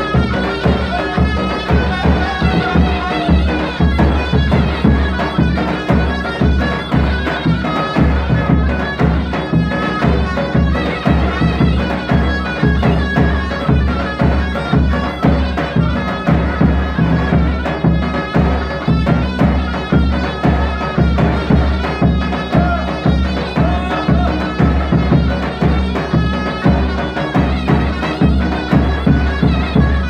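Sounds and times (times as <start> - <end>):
heavy drum beat: 0.0 - 30.0
reedy wind instrument melody: 0.0 - 30.0.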